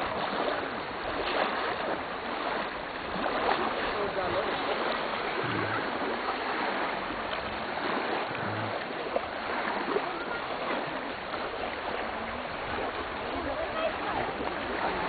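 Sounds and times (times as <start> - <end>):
small waves washing onto shore: 0.0 - 15.0.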